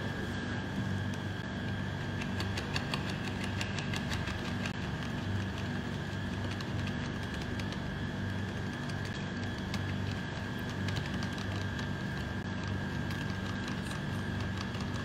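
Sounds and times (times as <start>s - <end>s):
low machine hum: 0.0s - 15.0s
whisk ticking against plastic tub: 1.1s - 15.0s.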